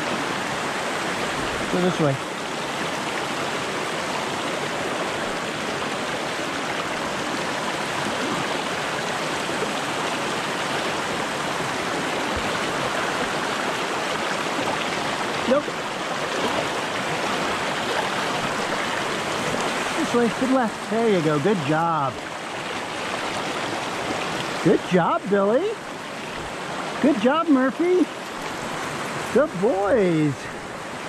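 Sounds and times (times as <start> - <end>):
creek rushing over rocks: 0.0 - 31.0.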